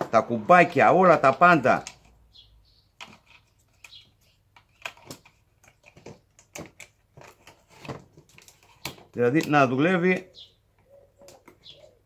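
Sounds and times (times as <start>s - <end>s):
plastic parts clicking: 1.2s - 2.2s, 3.0s - 11.7s.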